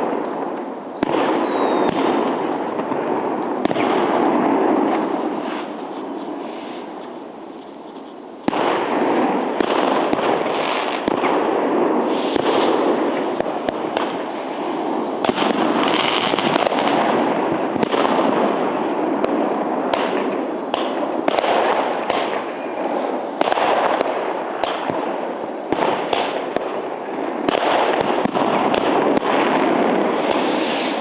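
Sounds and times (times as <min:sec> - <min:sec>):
sharp firework bangs: 0:00.0 - 0:07.0, 0:08.4 - 0:31.0
fireworks crackle and rumble: 0:00.0 - 0:31.0.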